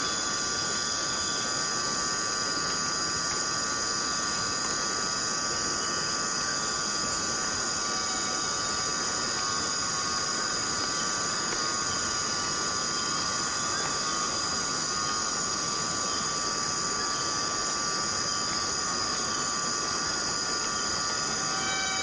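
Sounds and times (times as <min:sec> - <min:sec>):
insect chorus: 0:00.0 - 0:22.0
steady rain hiss: 0:00.0 - 0:22.0.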